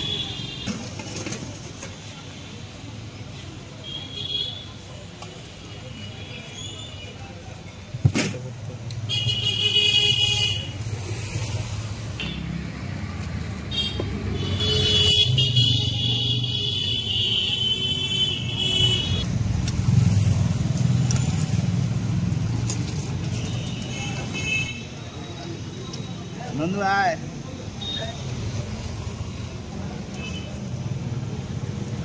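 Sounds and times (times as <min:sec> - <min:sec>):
vehicle engines rumbling: 0:04.6 - 0:32.0.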